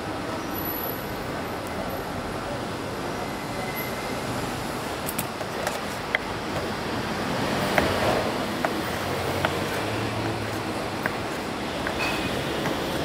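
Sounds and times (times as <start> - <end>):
busy street-food stall noise: 0.0 - 13.0.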